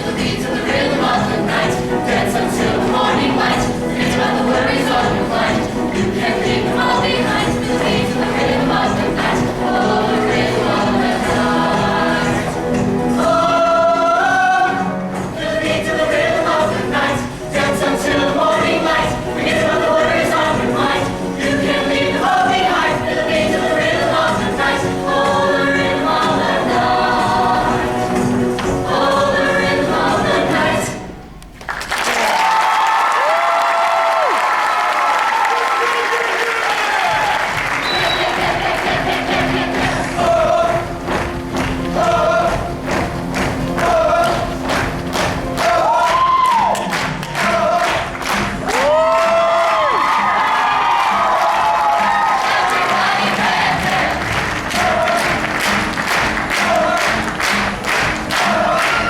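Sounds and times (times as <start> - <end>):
choir singing in close harmony: 0.0 - 31.2, 37.0 - 59.0.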